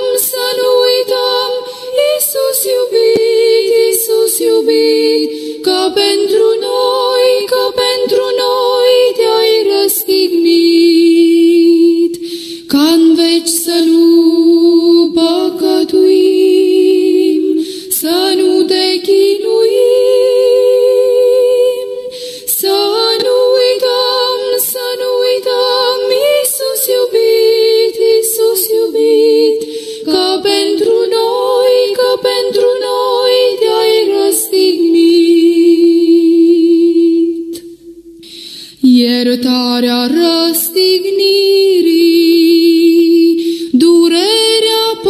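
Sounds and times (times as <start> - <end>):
voices singing a hymn: 0.0 - 45.0.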